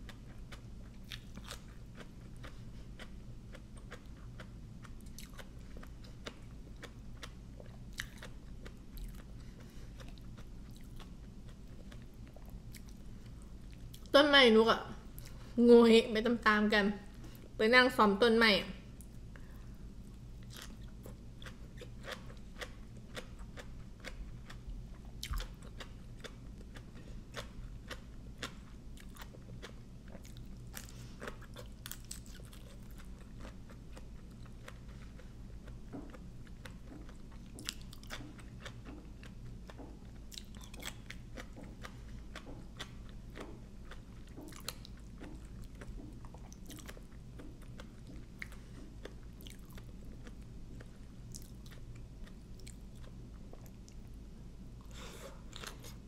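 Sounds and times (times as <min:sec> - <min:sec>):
chewing and crunching food: 0:00.0 - 0:14.2, 0:18.9 - 0:56.0
steady low hum: 0:00.0 - 0:56.0.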